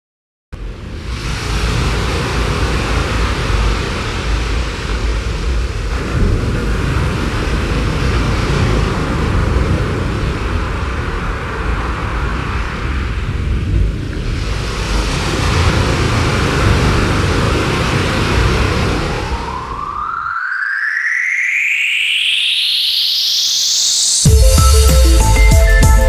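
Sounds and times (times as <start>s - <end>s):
steady rushing rumble: 0.6s - 20.3s, 24.0s - 26.0s.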